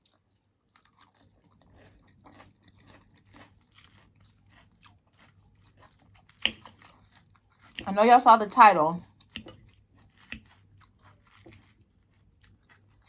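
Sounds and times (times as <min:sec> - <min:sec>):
chewing crunchy food: 0:00.0 - 0:08.1, 0:09.0 - 0:13.0.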